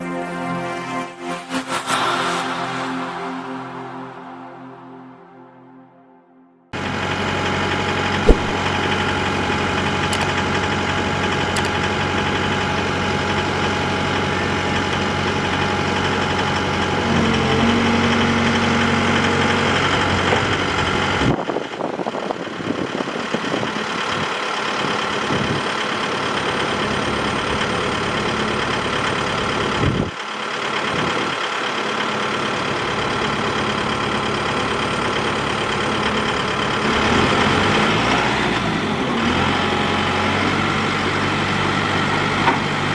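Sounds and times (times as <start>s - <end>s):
excavator diesel engine idling: 6.8s - 42.9s.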